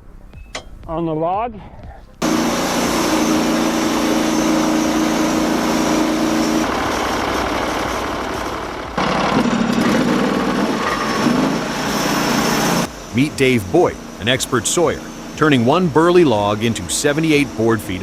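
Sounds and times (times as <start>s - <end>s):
sawmill saw cutting log: 2.2s - 18.0s.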